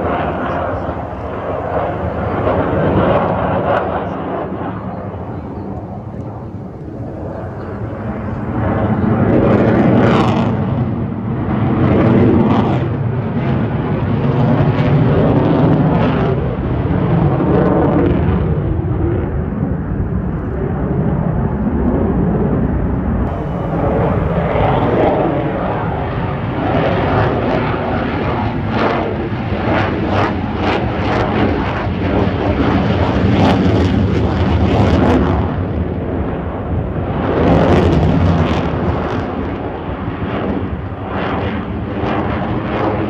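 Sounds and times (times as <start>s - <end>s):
fighter jets flying overhead: 0.0s - 43.0s.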